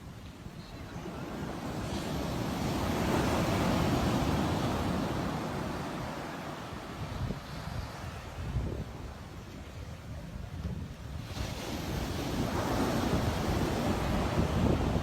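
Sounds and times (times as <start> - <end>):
surf rushing: 0.6 - 9.8, 11.0 - 15.0.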